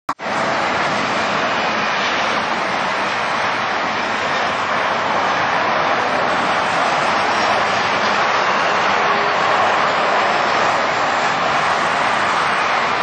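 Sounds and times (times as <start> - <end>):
jet engines rushing: 0.2 - 13.0.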